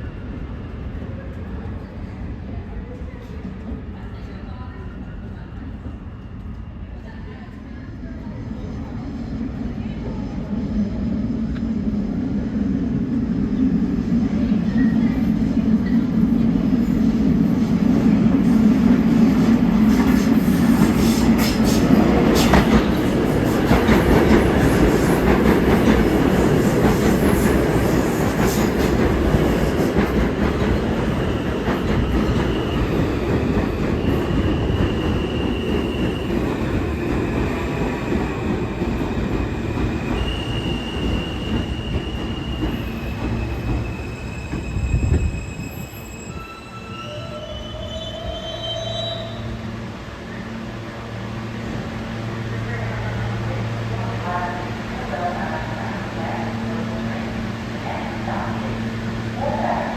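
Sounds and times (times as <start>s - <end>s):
subway train rumbling on track: 0.0s - 59.9s.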